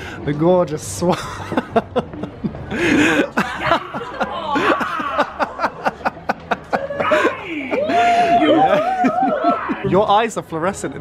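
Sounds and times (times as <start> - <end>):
people laughing: 1.0 - 10.1.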